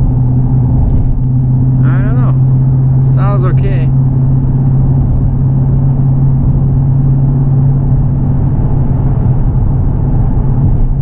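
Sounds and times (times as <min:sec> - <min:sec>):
car exhaust low hum cruising: 0:00.0 - 0:11.0.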